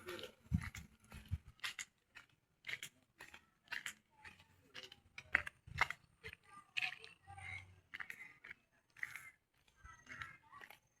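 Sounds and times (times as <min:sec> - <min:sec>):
footsteps crunching on gritty ground: 0:00.0 - 0:11.0.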